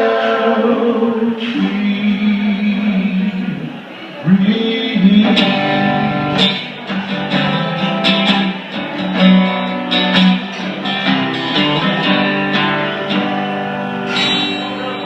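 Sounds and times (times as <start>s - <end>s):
slow blues guitar: 0.0s - 15.0s.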